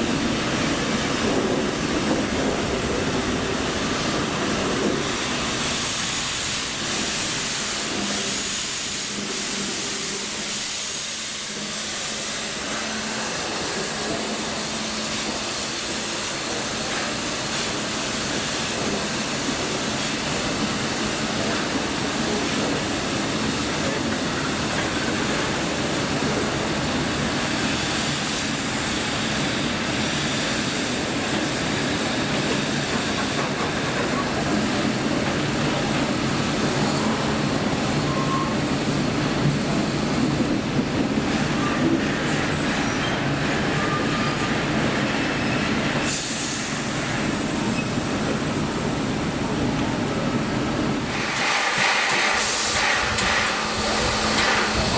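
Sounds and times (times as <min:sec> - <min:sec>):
locomotive hissing: 0:00.0 - 0:54.9.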